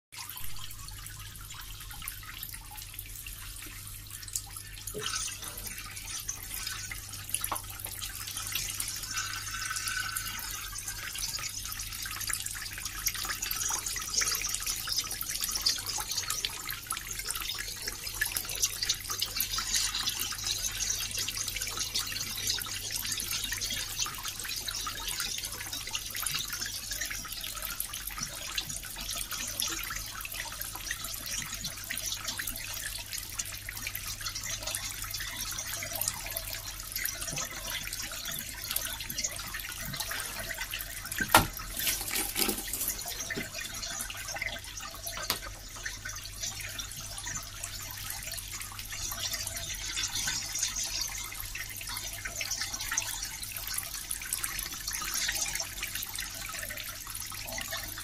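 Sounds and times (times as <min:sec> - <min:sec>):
water drips ticking: 0:00.2 - 0:58.0
water running and splashing: 0:00.2 - 0:58.0.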